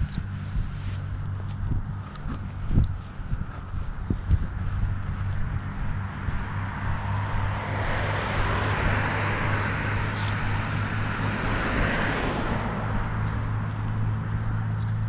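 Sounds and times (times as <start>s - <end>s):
steady low hum: 0.0s - 15.0s
vehicle passing: 0.0s - 15.0s.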